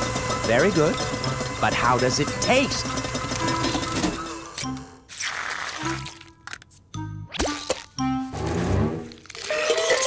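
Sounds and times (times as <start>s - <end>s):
cartoon background music: 0.1s - 10.0s.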